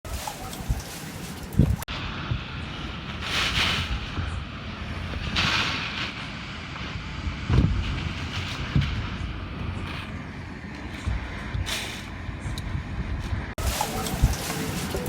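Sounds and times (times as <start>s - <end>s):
strong wind buffeting microphone: 0.1s - 15.0s.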